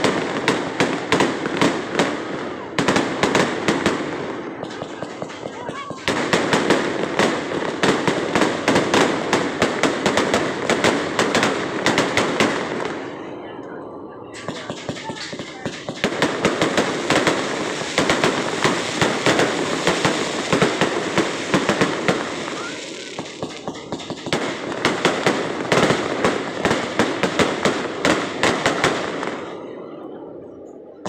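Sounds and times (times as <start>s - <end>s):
fireworks bursts and crackling: 0.0s - 13.3s, 14.2s - 29.8s.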